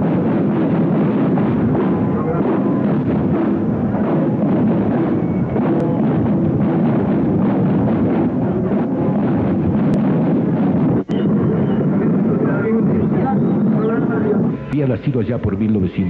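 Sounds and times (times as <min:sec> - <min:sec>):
drum and bugle band playing: 0:00.0 - 0:14.7
drums beating steadily: 0:00.0 - 0:16.0.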